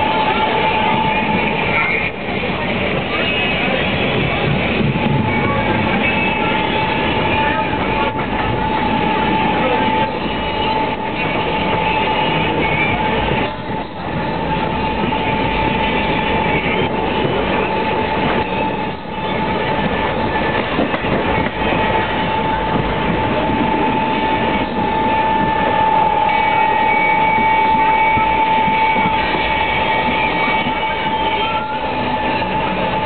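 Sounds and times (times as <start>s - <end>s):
high whine: 0.0s - 33.0s
train wheels on rails: 0.0s - 33.0s.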